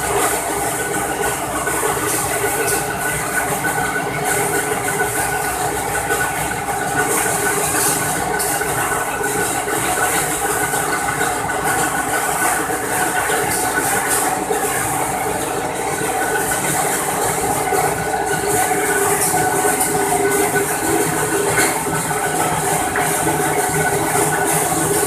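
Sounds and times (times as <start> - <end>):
laminating machine running: 0.0 - 25.0.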